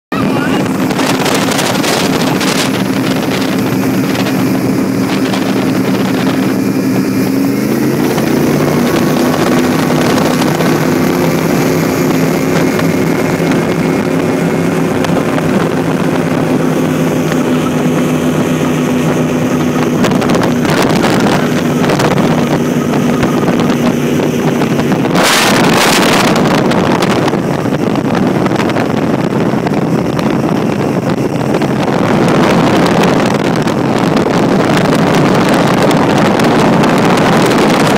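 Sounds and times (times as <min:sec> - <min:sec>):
motorboat engine running: 0:00.1 - 0:37.9
wind rushing over microphone: 0:00.1 - 0:37.9.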